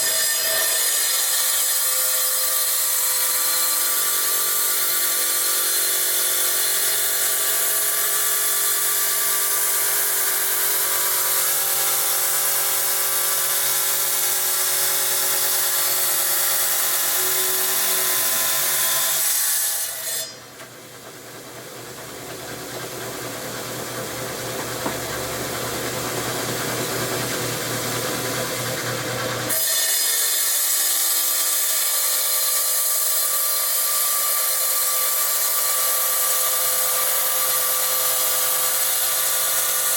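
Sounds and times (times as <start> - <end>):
tile saw whining and cutting: 0.0 - 20.5, 22.6 - 39.9.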